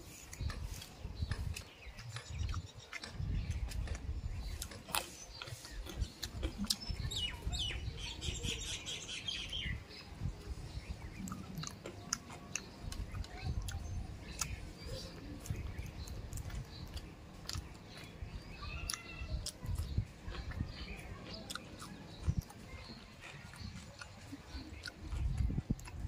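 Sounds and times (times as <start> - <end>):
chewing and lip smacking: 0.2 - 10.0, 10.6 - 26.0.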